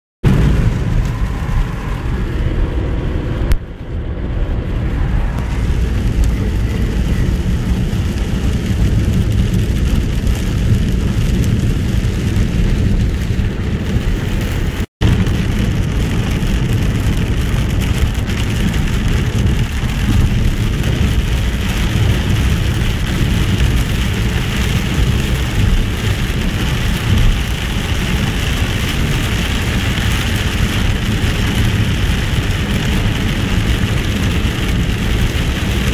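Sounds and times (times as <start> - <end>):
car road and engine noise: 0.2 - 35.9
heavy rain on car roof: 0.2 - 35.9.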